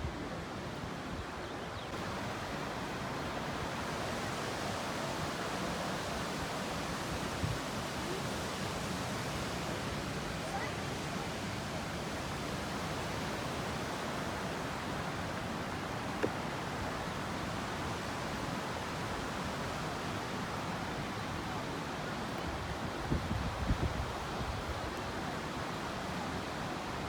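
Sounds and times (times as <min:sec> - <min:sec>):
water rushing over waterfall: 0:02.0 - 0:27.0.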